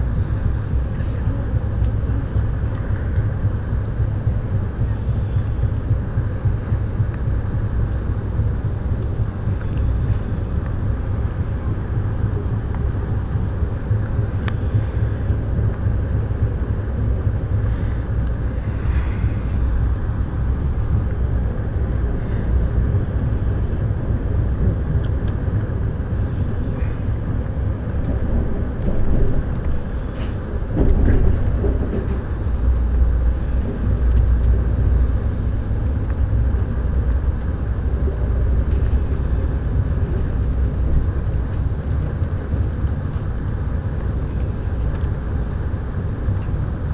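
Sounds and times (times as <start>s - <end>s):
train car rumbling on track: 0.0s - 46.9s.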